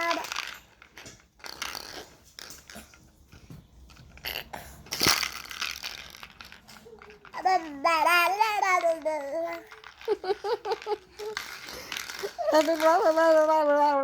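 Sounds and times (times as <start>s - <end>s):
toy clicking and knocking: 0.0s - 14.0s.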